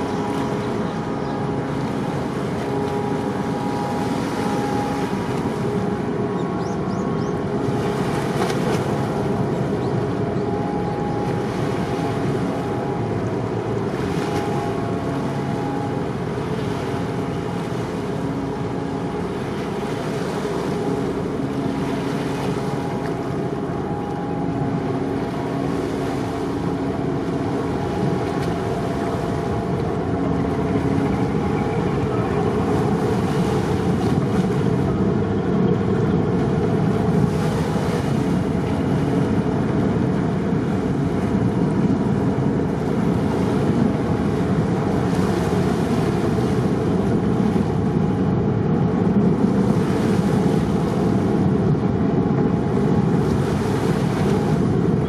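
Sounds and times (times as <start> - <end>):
sea wash: 0.0 - 55.0
ship engines droning: 0.0 - 55.0
wind buffeting microphone: 0.0 - 55.0.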